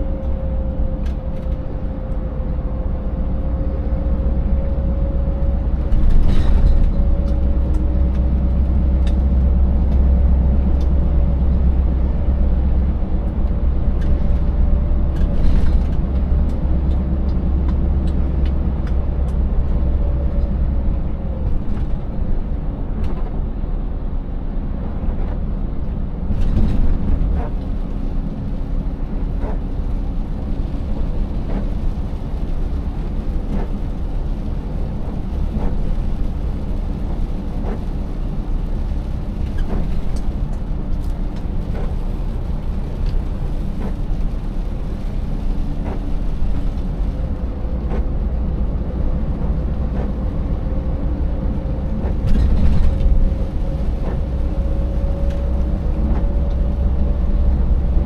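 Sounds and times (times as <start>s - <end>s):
diesel truck engine rumble: 0.0s - 58.0s.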